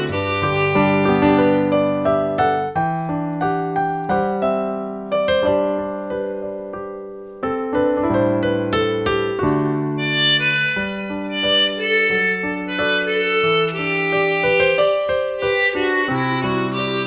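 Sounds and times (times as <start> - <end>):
slow piano ballad: 0.0 - 17.0.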